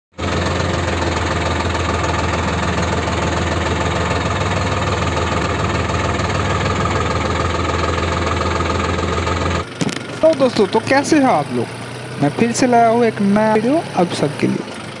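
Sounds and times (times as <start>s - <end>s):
tractor diesel engine running: 0.1s - 15.0s.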